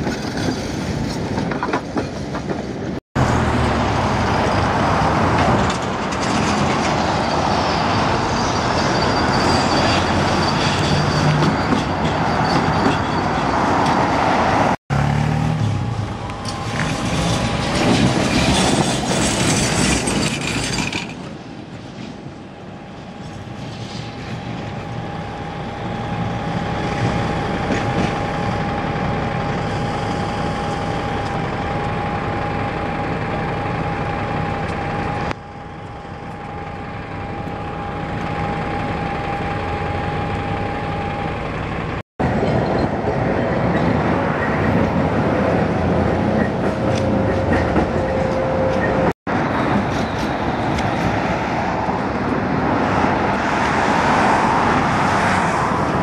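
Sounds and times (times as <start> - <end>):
high tram whine: 0.0 - 56.0
road traffic: 0.0 - 56.0
tram wheels on rail: 0.0 - 56.0.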